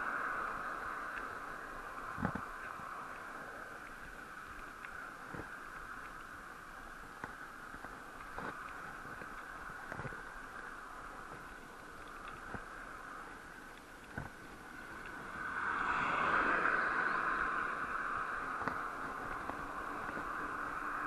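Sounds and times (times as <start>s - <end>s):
faint clicks: 0.0s - 21.0s
wind and road rush: 0.0s - 21.0s.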